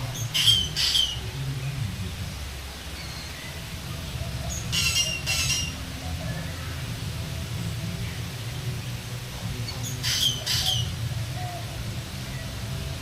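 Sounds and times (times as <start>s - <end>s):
birds raspy calls: 0.0s - 13.0s
steady low rumble: 0.0s - 13.0s.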